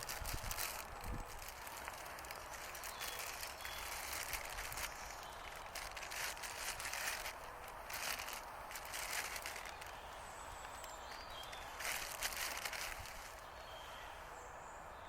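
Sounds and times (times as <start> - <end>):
rustling: 0.0 - 13.6
faint bird chirps: 0.0 - 15.0.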